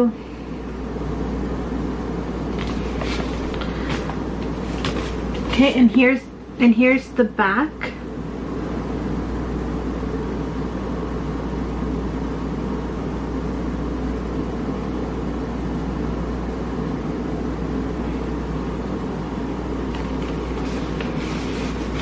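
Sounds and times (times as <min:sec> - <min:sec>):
low hum with hiss: 0:00.0 - 0:22.0.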